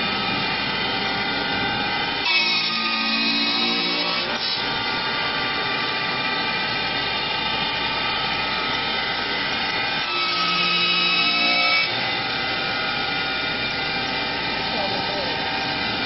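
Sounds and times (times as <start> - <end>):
wood cutting noise: 0.0 - 16.0
wood lathe spindle motors whining: 0.0 - 16.0.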